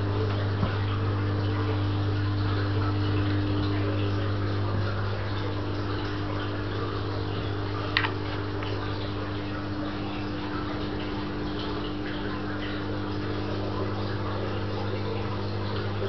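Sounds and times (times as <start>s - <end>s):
aquarium equipment mains hum: 0.0s - 16.0s.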